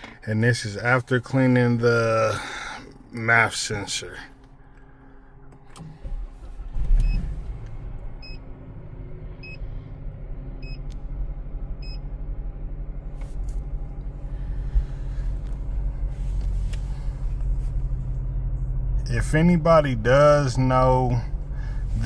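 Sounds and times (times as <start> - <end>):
car engine starting and idling: 0.0 - 22.0.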